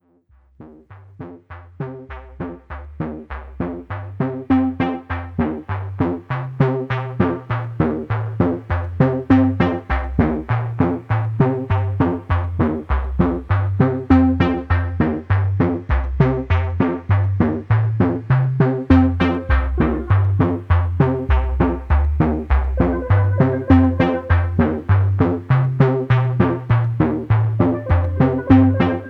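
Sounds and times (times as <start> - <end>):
bass line: 0.4 - 29.0.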